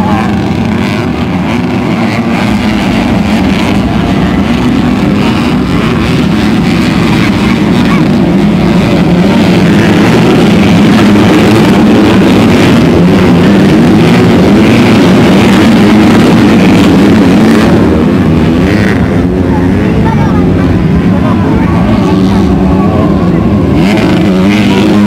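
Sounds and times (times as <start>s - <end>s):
motocross bike engines racing: 0.0s - 25.0s.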